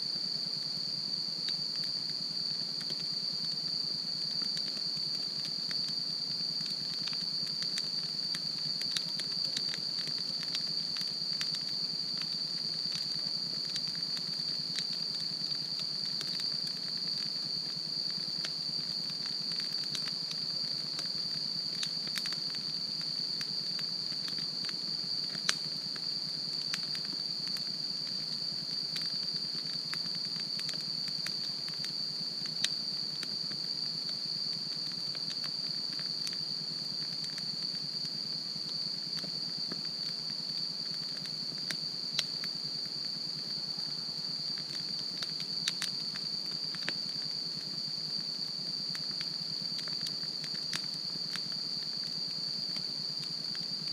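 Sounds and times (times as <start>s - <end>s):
wood fire crackling: 1.4s - 53.6s.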